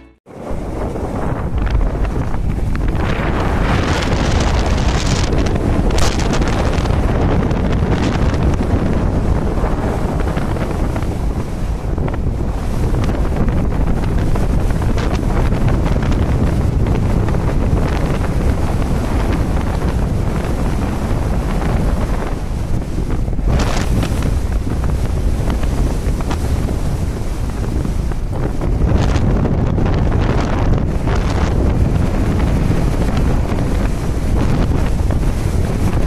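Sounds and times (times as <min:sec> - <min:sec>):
sea waves rushing: 0:00.0 - 0:36.0
wind gusting over microphone: 0:00.0 - 0:36.0.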